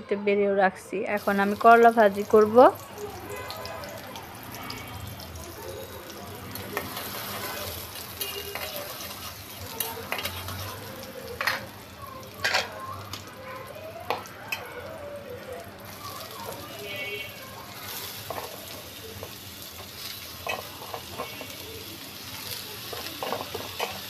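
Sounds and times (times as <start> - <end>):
onion sizzling in hot oil: 1.1 - 24.0.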